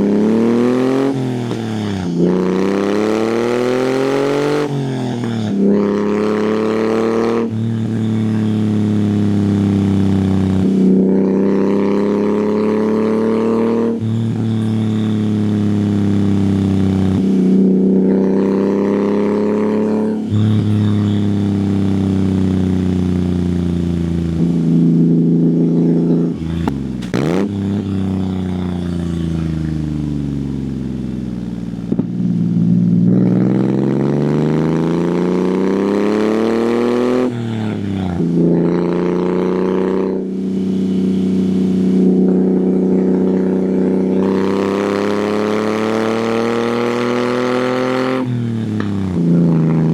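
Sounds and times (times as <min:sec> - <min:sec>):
small car engine shifting gears: 0:00.0 - 0:49.9.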